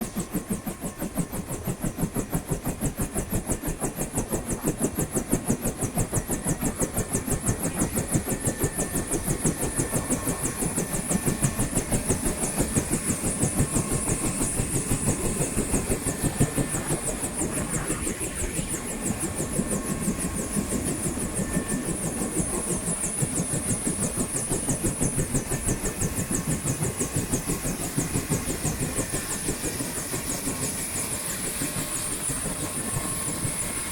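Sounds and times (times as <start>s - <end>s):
helicopter rotor beat: 0.0s - 33.9s
helicopter turbine whine: 0.0s - 33.9s.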